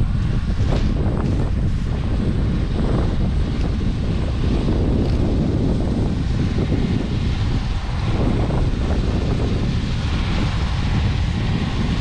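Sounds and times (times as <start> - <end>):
distant combine harvester drone: 0.0 - 12.0
gusty wind on microphone: 0.0 - 12.0.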